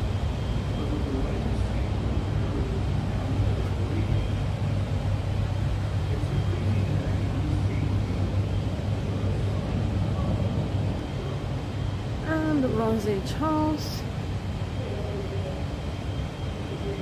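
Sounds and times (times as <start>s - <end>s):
indoor low rumble and hum: 0.0s - 17.0s.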